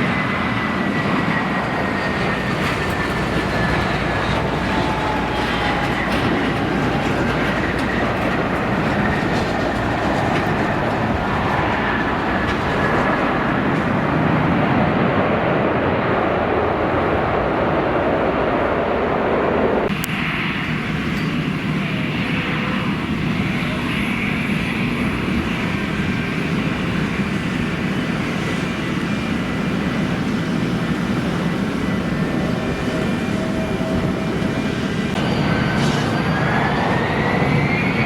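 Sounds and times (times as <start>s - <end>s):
jet airliner engines running: 0.0s - 38.0s.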